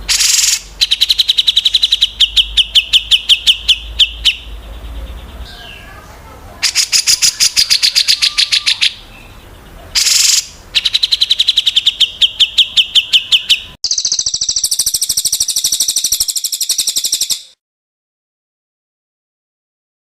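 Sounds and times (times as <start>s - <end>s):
songbirds trilling: 0.0s - 17.5s.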